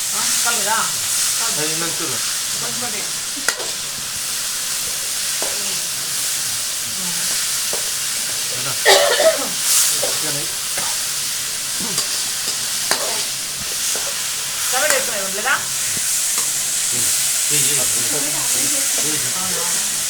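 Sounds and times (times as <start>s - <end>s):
masala sizzling in hot oil: 0.0s - 20.0s.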